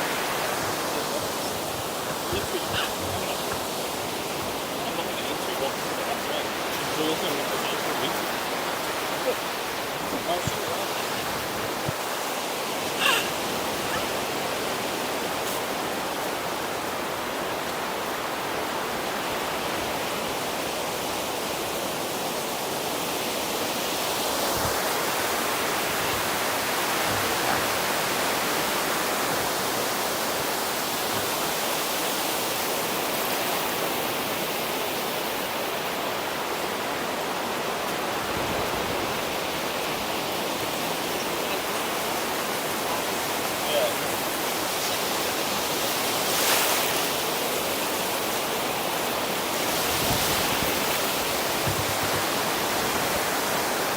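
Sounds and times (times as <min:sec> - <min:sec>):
sea surf washing on beach: 0:00.0 - 0:53.9.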